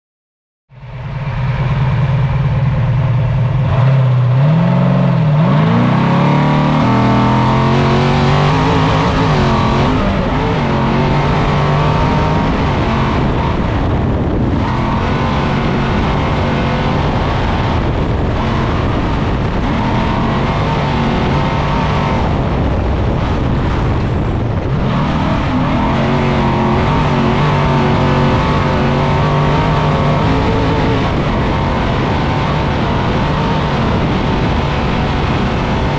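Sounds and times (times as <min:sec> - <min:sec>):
truck engine accelerating: 0:00.7 - 0:35.9.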